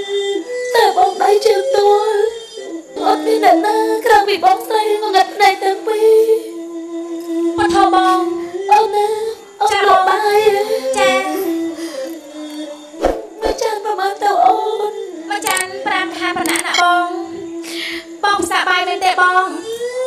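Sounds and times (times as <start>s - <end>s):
opera singing: 0.0s - 20.0s.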